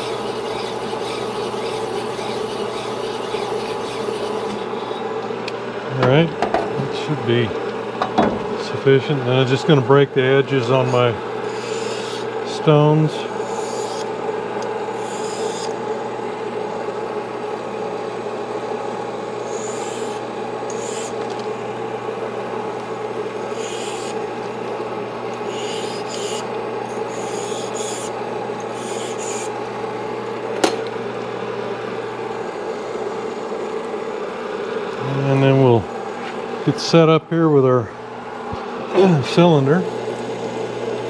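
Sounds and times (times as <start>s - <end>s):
honing machine motor hum: 0.0s - 41.0s.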